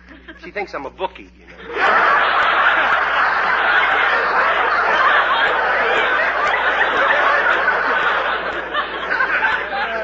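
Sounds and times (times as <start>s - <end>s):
studio audience laughing: 1.5s - 10.0s.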